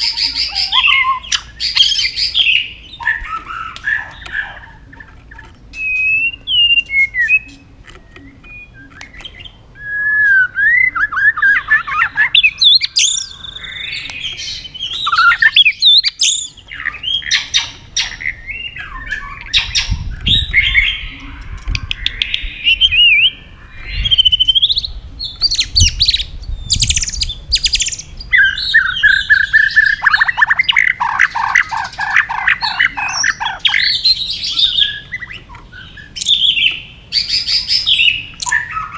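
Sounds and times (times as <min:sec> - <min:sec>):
bird singing whistled song: 0:00.0 - 0:04.5, 0:05.7 - 0:38.9.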